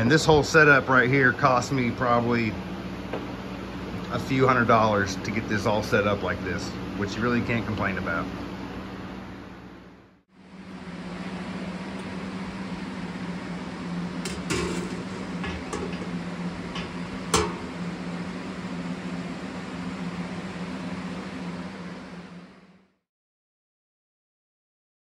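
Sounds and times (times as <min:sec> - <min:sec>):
steady hum with hiss: 0:00.0 - 0:23.0.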